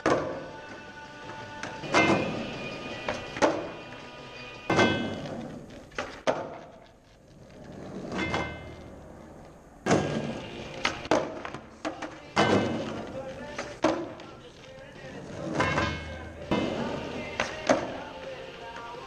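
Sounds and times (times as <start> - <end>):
skateboard clacks: 0.0 - 3.9, 4.7 - 19.0
skateboard wheels rolling on concrete: 0.0 - 19.0.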